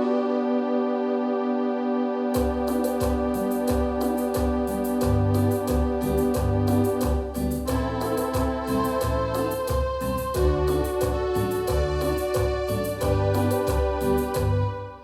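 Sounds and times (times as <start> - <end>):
synthesizer chord with bass line: 0.0 - 15.0.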